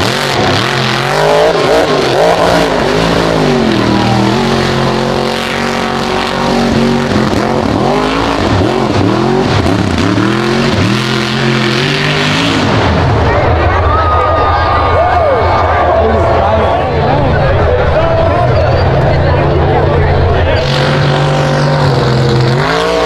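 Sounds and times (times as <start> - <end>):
truck engine revving: 0.0 - 13.9, 14.7 - 23.0.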